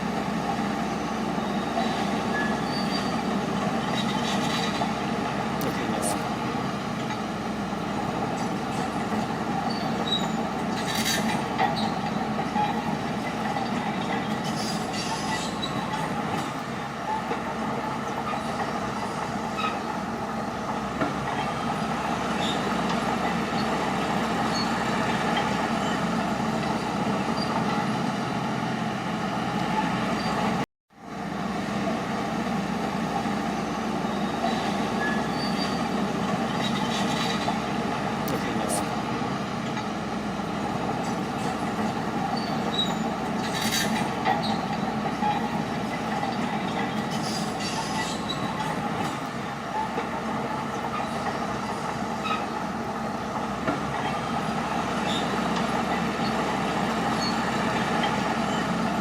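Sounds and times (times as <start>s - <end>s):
steel tracks squealing and clanking: 0.0s - 30.6s, 31.8s - 59.0s
bulldozer engine drone: 0.0s - 59.0s.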